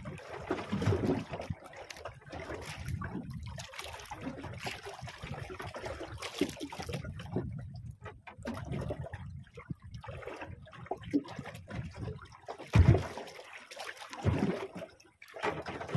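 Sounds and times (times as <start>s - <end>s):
water lapping against boat hull: 0.0s - 15.9s.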